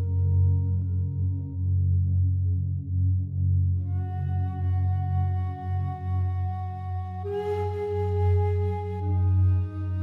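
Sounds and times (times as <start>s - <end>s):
ambient music low tones: 0.0s - 10.0s.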